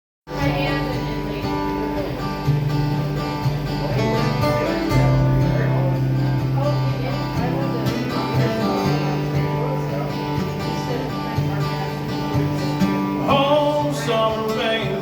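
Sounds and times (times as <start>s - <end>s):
country guitar music: 0.3s - 15.0s.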